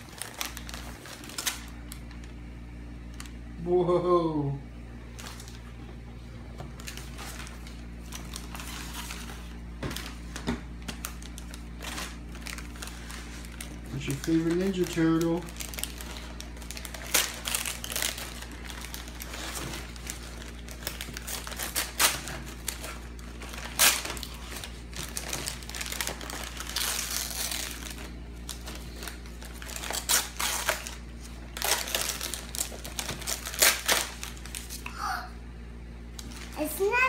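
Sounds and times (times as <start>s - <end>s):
wrapping paper tearing and crinkling: 0.0s - 3.5s, 5.1s - 5.8s, 6.7s - 35.1s, 36.1s - 37.0s.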